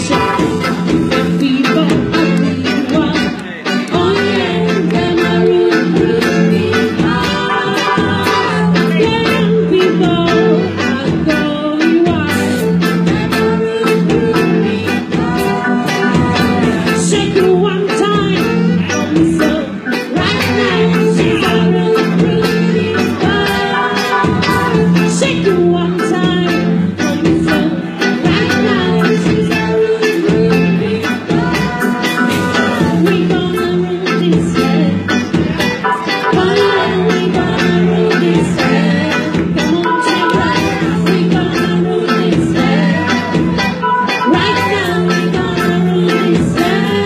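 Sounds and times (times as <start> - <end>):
bass guitar: 0.0 - 47.0
electric guitar: 0.0 - 47.0
lead singer singing: 0.0 - 47.0
steady drum beat: 0.0 - 47.0.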